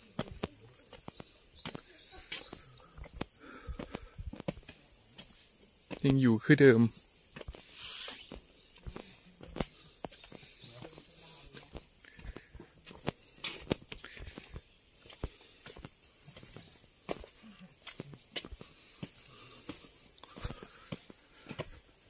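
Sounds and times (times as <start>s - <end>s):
footsteps on a path: 0.0s - 22.0s.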